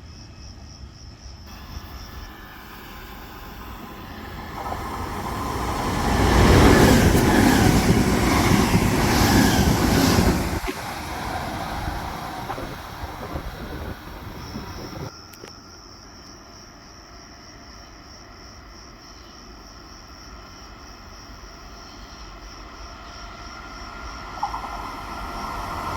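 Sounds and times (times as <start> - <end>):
train passing on rails: 0.0 - 15.1, 17.3 - 25.9.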